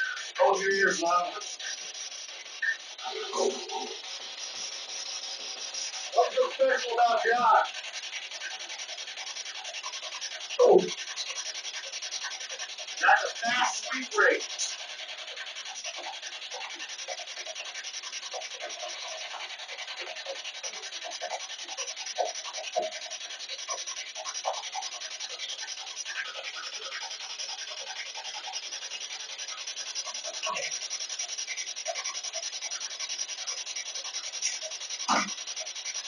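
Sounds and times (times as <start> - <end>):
radio static sweeping stations: 0.0 - 36.0.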